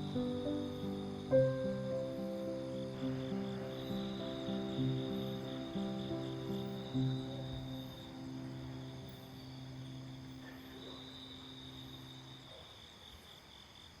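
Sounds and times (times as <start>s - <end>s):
low music chord: 0.0s - 12.1s
crickets chirping: 0.0s - 14.0s.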